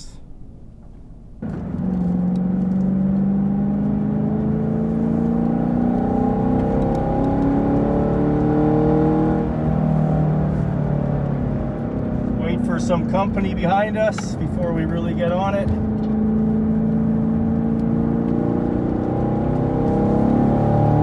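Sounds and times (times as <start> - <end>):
car engine pulling away: 0.2 - 21.0.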